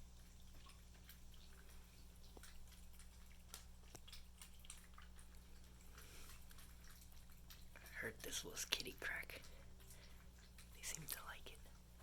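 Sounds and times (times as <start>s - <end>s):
cats licking and lapping: 0.0s - 12.0s
low steady hum: 0.0s - 12.0s.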